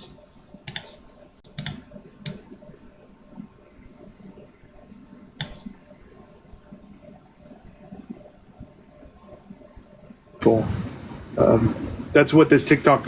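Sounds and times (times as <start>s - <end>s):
faint low background noise: 0.0s - 13.0s.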